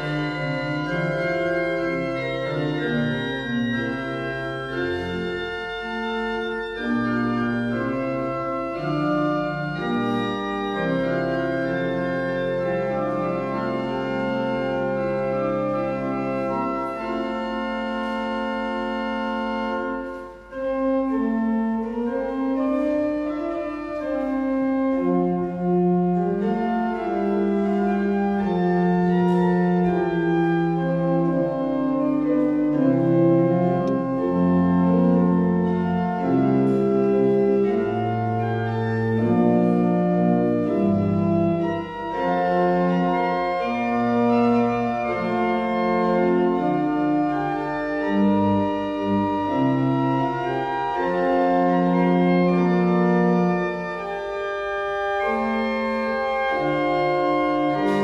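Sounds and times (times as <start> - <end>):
church organ slow chords: 0.0 - 58.0.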